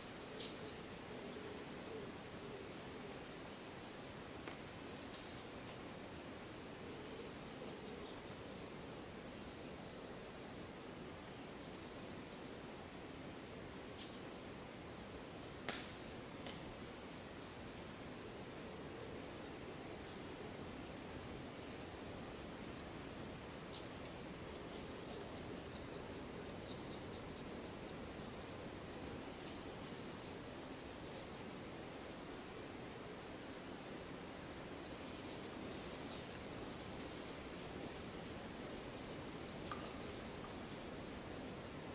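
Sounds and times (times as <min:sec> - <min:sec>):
shrill insect chorus: 0:00.0 - 0:41.9.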